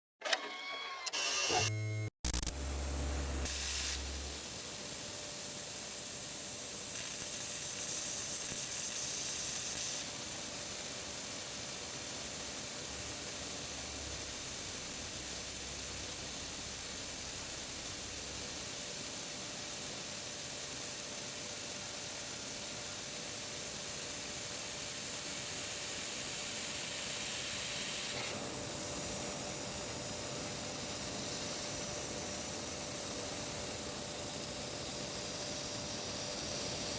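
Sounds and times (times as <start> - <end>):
laser cutter gas jet hiss: 2.4 - 36.9.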